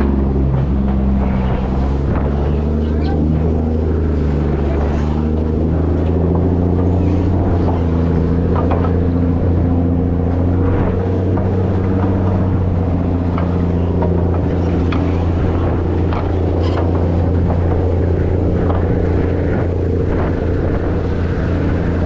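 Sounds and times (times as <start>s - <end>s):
low drone of ship engine: 0.0s - 22.0s.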